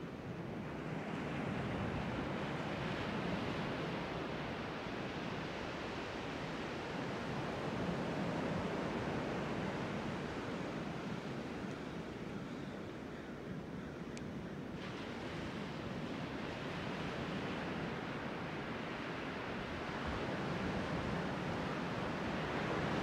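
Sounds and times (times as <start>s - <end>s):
ocean surf breaking on beach: 0.5s - 13.1s, 14.7s - 23.0s.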